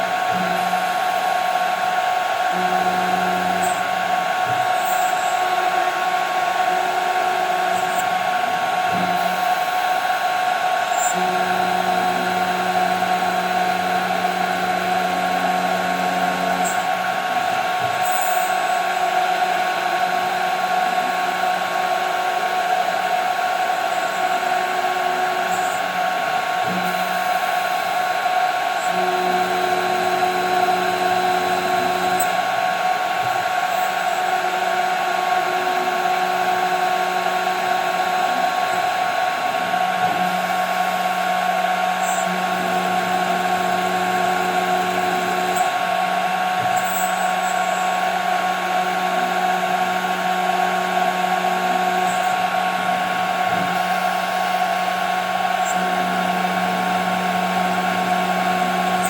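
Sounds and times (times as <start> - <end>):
high-pitched spindle whine: 0.0 - 59.0.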